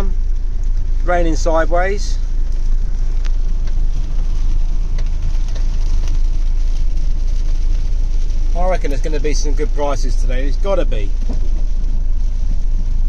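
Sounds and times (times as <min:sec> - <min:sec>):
heavy wind-driven rain: 0:00.0 - 0:13.0
low rumble: 0:00.0 - 0:13.0.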